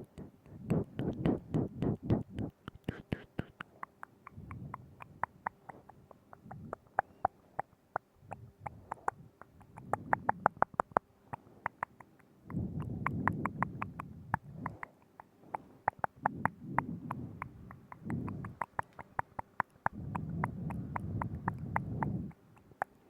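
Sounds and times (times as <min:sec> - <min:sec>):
moist mouth smacking: 0:00.0 - 0:23.0
tongue and lip clicks: 0:00.0 - 0:23.0
breathy noise: 0:00.2 - 0:07.1, 0:08.3 - 0:23.0.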